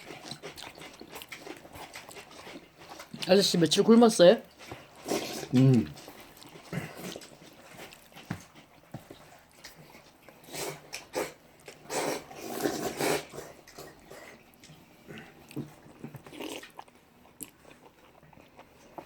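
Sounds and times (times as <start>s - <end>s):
person slurping and chewing noodles: 0.0s - 3.6s, 4.4s - 19.0s.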